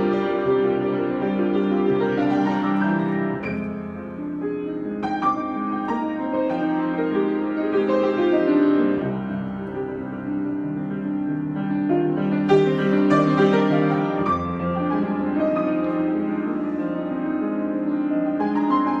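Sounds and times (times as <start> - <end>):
solo piano chords: 0.0 - 19.0.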